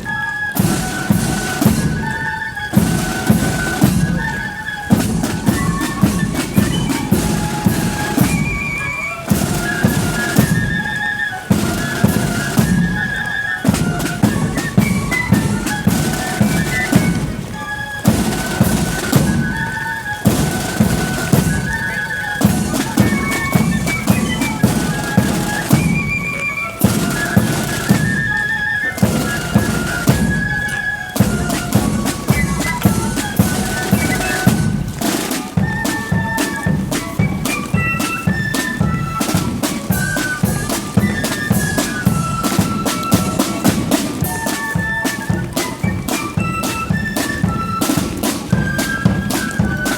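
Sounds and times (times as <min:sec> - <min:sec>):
bass and snare drums march beat: 0:00.0 - 0:49.9
flutes piping melody: 0:00.0 - 0:49.9.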